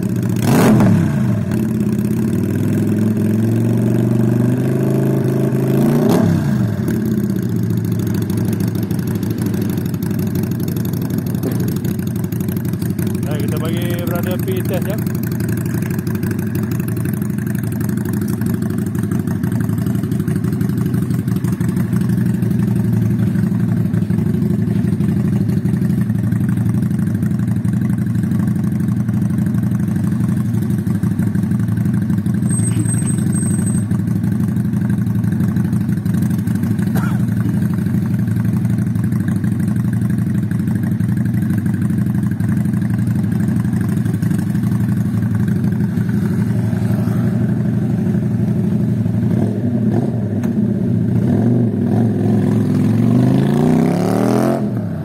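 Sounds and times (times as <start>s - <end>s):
motorcycle engine idling: 0.0s - 4.4s, 6.5s - 53.0s.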